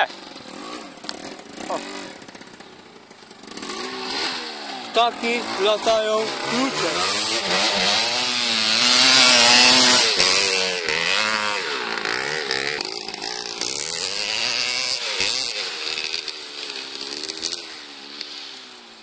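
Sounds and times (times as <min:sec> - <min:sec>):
two-stroke engine revving hard: 0:00.0 - 0:19.0.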